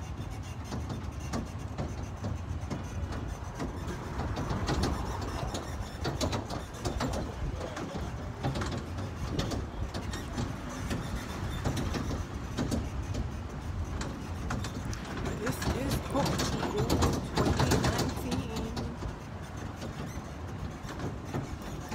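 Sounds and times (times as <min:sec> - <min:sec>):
carriage rattling: 0:00.0 - 0:21.9
road train rumble: 0:00.0 - 0:21.9.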